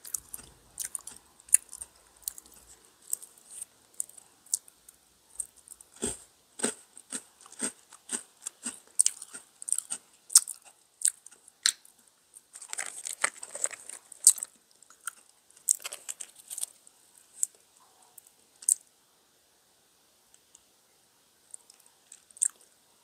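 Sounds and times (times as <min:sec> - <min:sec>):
crunchy cookie chewing: 0:00.0 - 0:18.9, 0:21.5 - 0:22.8.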